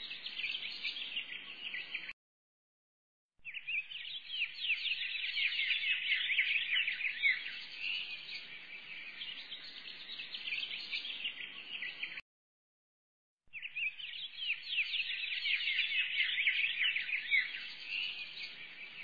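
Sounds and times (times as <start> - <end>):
small birds chirping: 0.0 - 2.1, 3.4 - 12.2, 13.5 - 19.0.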